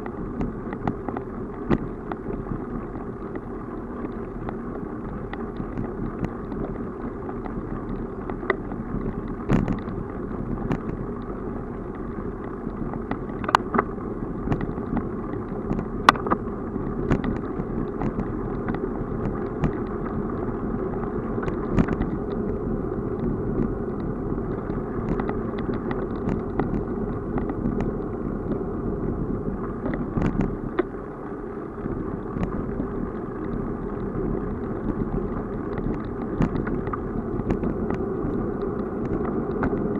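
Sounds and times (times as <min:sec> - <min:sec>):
bicycle rolling on asphalt: 0:00.0 - 0:39.9
wind: 0:00.0 - 0:39.9.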